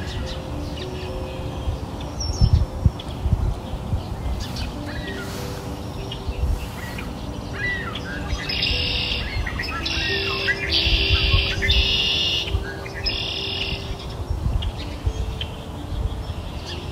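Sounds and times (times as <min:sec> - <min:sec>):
birds chirping: 0:00.0 - 0:16.9
soft held music notes: 0:00.0 - 0:16.9.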